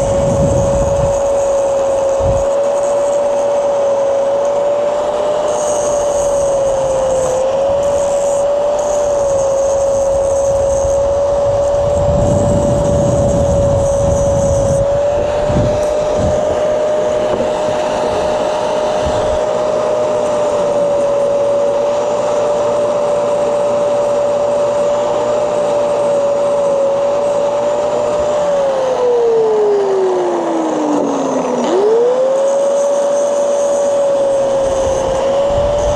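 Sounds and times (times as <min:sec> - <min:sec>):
angle grinder grinding metal: 0:00.0 - 0:35.9.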